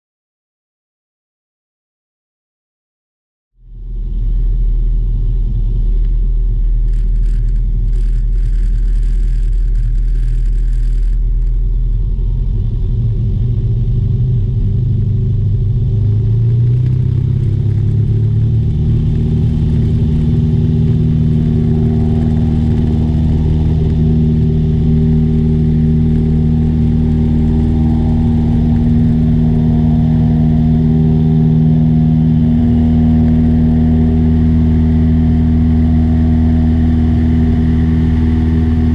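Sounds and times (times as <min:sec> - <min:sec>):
light aircraft engine droning: 0:03.6 - 0:38.9.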